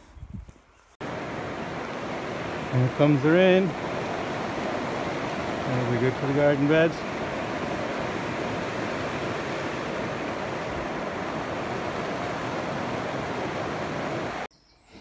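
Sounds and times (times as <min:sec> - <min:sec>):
heavy rain: 0:01.0 - 0:14.5.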